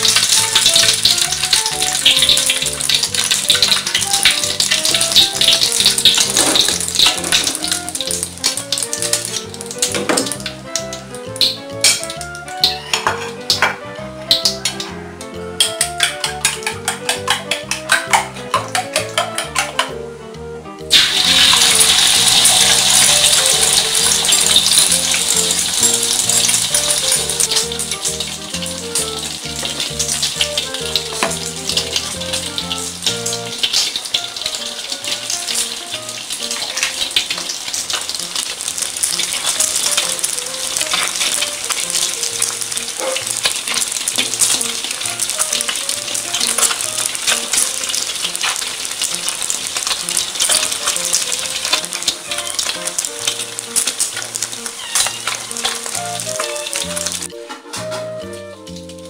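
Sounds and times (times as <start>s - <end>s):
background music: 0.0s - 59.0s
oil sizzling in a wok: 0.0s - 59.0s.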